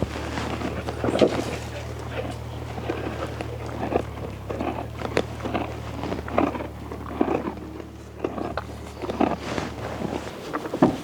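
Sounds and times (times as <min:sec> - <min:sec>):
donkey chewing and crunching: 0:00.0 - 0:11.0
steady low hum: 0:00.0 - 0:11.0.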